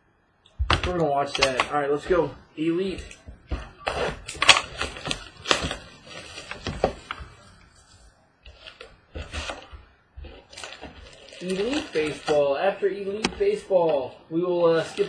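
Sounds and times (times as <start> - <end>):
cardboard packaging crackling: 0.7 - 15.0.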